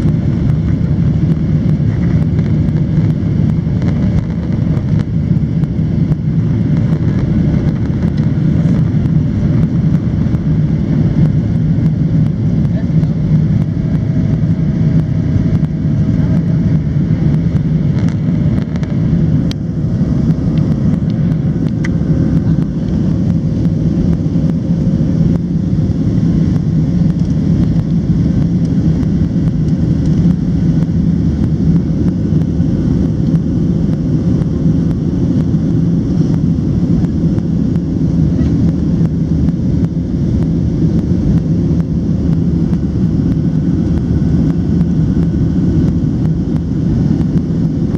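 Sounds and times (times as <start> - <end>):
jet engines droning in cabin: 0.0 - 47.9
rushing airflow: 0.0 - 47.9.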